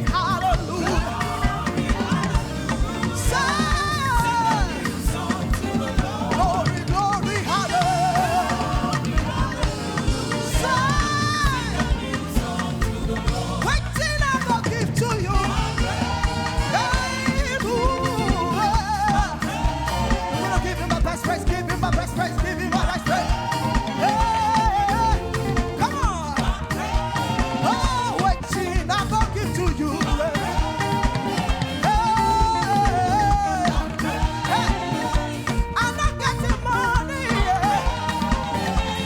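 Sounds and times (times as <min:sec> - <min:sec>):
person singing: 0:00.0 - 0:39.0
upbeat praise band music: 0:00.0 - 0:39.0.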